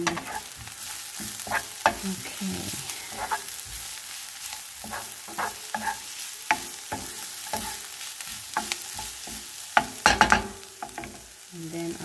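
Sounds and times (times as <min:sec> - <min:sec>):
utensil scraping pan: 0:00.0 - 0:02.0, 0:02.7 - 0:11.3
food sizzling in frying pan: 0:00.0 - 0:12.0.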